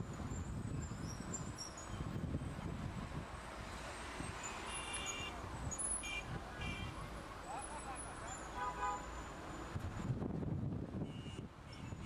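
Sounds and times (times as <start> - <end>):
traffic and crowd rumble: 0.0 - 12.0.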